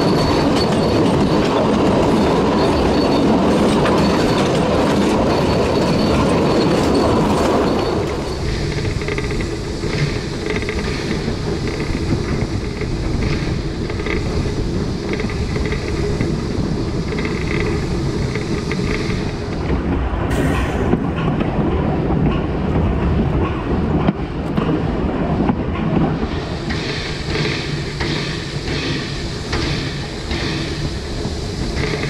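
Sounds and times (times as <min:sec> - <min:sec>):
steam train wheels rumbling: 0:00.0 - 0:32.0.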